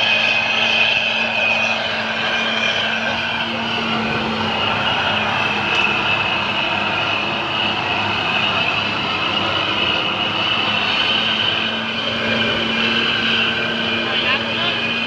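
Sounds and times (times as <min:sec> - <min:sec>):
steady higher whine: 0:00.0 - 0:15.0
vehicle road noise: 0:00.0 - 0:15.0.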